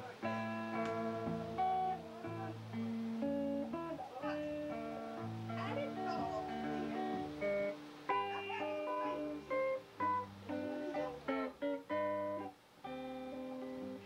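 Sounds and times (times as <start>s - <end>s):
acoustic guitar bluegrass tune: 0.0s - 14.0s.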